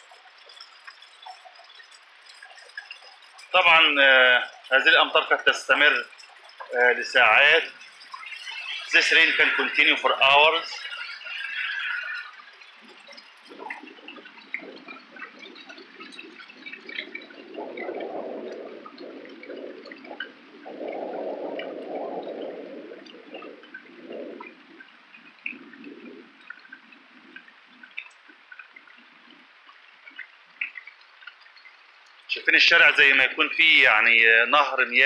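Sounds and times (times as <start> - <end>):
heavy rain falling: 0.0 - 31.2
drops tapping and dripping: 0.0 - 35.0.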